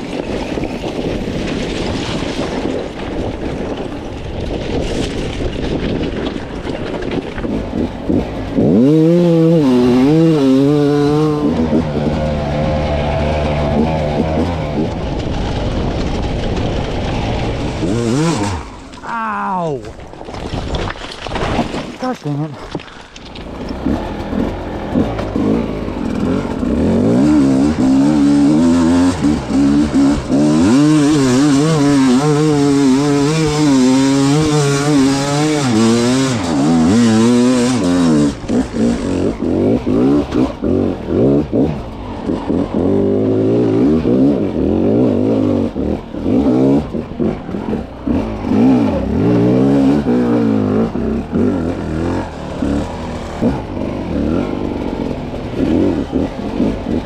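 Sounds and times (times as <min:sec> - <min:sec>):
dirt bike engine revving: 0:06.6 - 0:19.7, 0:23.4 - 0:57.0.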